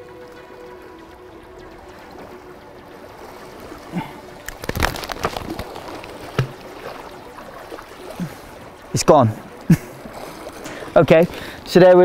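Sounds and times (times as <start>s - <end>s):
sea wash: 0.0s - 12.0s.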